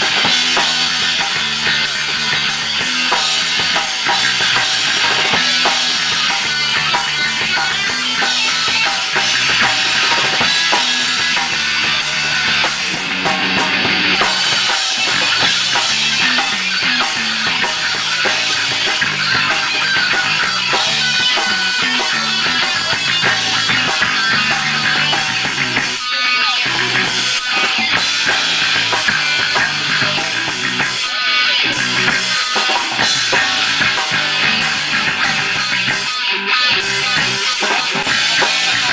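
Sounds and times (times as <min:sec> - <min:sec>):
drum kit: 0:00.0 - 0:38.9
electric guitar playing loud: 0:00.0 - 0:38.9.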